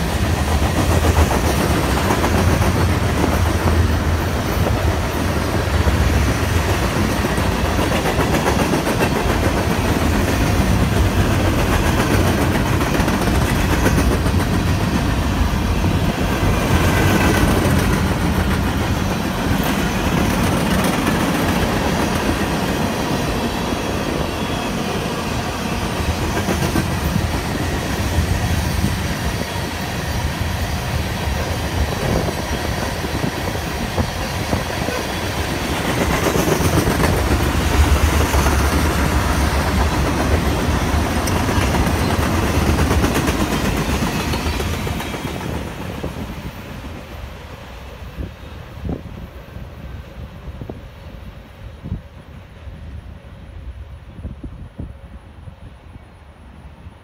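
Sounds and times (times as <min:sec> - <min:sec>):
rattle of rail cars: 0:00.0 - 0:57.0
train wheels rumbling on rails: 0:00.0 - 0:57.0.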